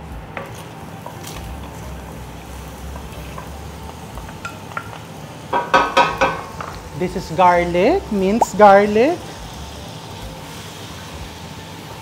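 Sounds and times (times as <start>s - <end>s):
butter sizzling in a pan: 0.0s - 12.0s.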